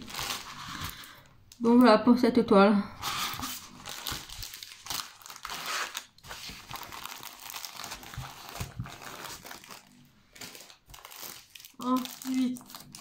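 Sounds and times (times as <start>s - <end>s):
paper and plastic crinkling: 0.0s - 1.3s, 3.0s - 13.0s.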